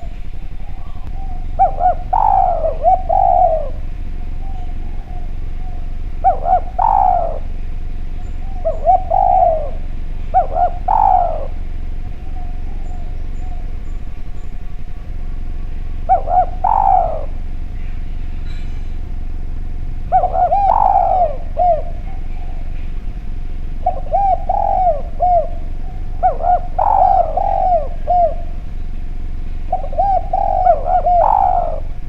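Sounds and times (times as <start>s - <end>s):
dove cooing: 0.0s - 32.0s
steady low hum: 0.0s - 32.0s.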